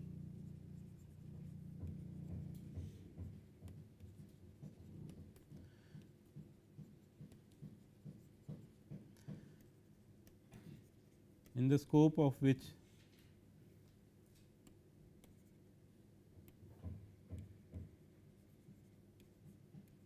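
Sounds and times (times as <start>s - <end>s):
stylus tapping and scratching: 0.1s - 12.1s, 14.2s - 15.7s, 16.3s - 20.0s.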